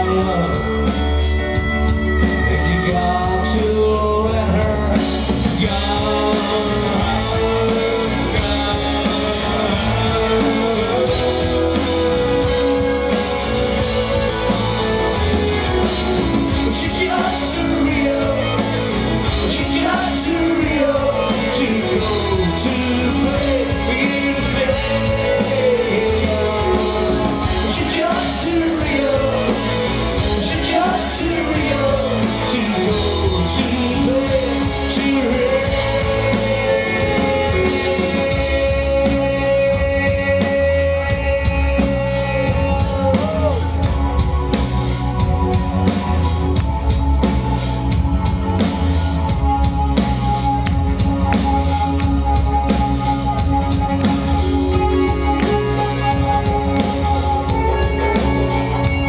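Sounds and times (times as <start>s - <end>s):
folk-rock band playing live: 0.0s - 59.0s
sliding melody line: 0.0s - 59.0s.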